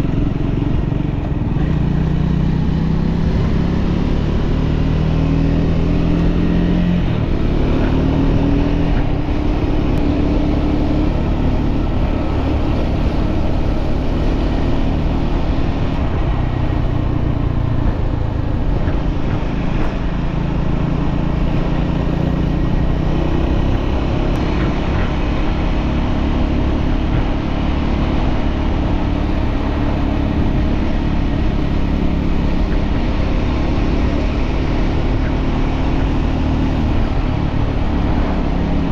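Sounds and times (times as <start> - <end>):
road rumble: 0.0 - 38.9
vehicle engine running: 0.0 - 38.9.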